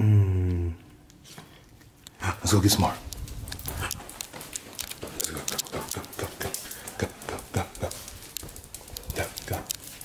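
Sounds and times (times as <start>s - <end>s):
dog claws clicking on floor: 1.1s - 10.0s.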